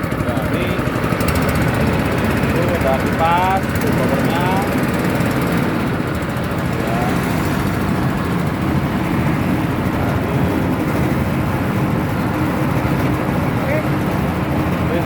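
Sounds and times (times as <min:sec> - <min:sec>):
single-cylinder engine running: 0:00.0 - 0:15.0.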